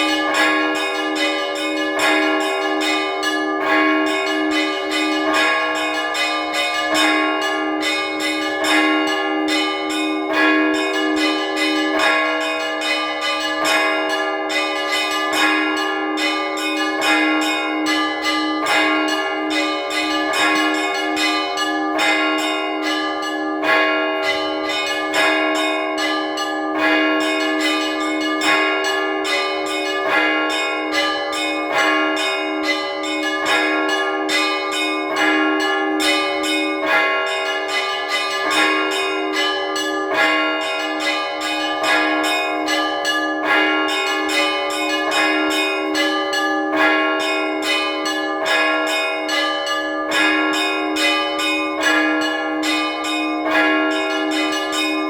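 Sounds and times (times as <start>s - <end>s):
church bells pealing: 0.0s - 55.0s.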